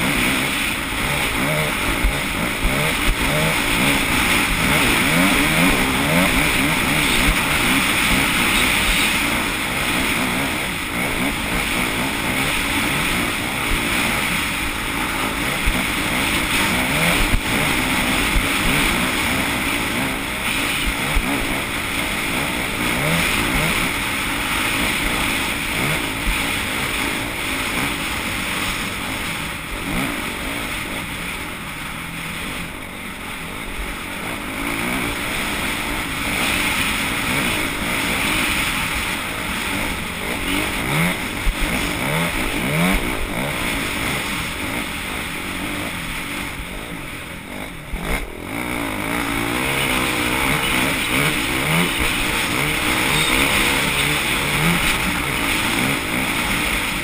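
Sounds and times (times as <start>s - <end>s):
racing engines revving: 0.0s - 57.0s.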